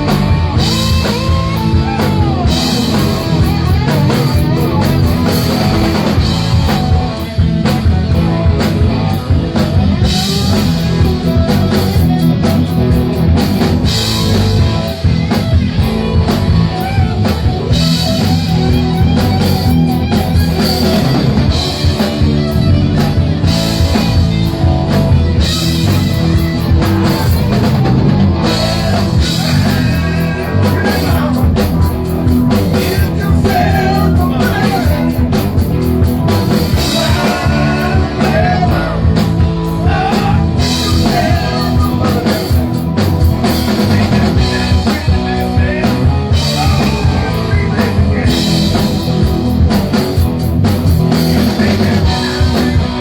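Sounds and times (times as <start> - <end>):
rock band playing loudly: 0.0 - 53.0.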